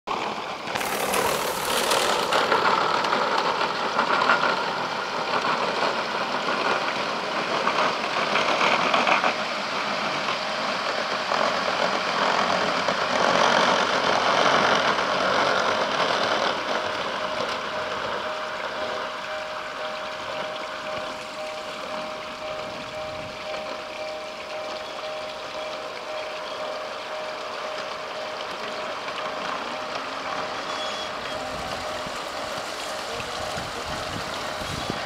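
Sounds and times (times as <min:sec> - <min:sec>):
model train rattling rumble: 0:00.1 - 0:35.0.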